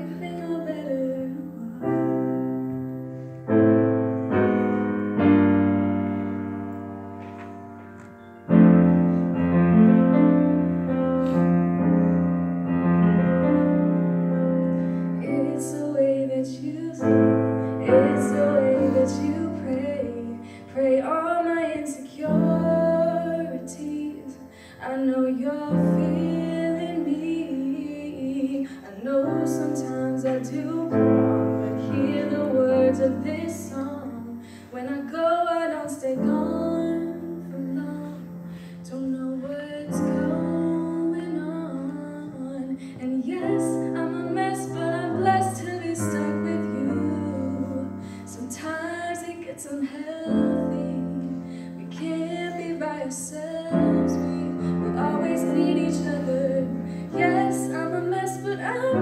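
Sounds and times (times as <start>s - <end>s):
woman singing a slow ballad: 0.0s - 7.2s, 13.2s - 59.0s
piano chords: 0.0s - 59.0s.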